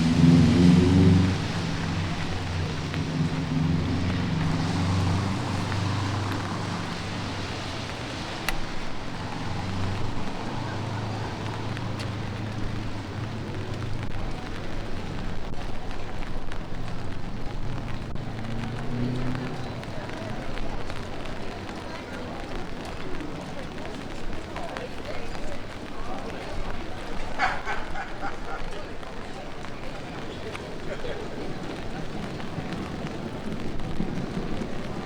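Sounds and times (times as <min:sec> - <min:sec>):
light rain on street: 0:00.0 - 0:35.0
vehicle engine humming: 0:00.0 - 0:35.0.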